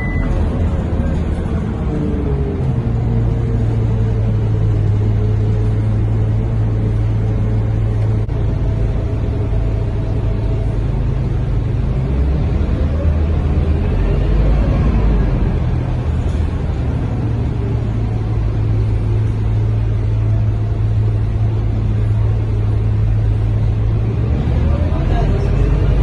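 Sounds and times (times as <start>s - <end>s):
bus diesel engine humming: 0.0s - 26.0s.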